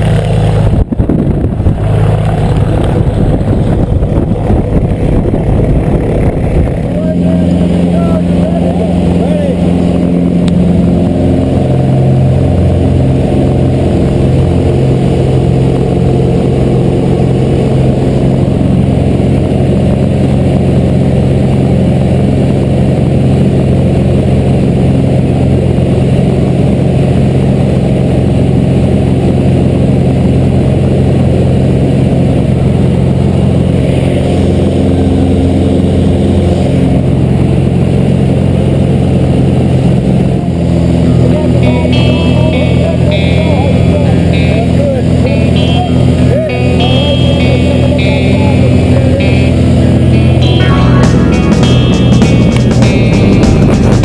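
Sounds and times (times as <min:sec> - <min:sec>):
propeller plane engine at high power: 0:00.0 - 0:54.0.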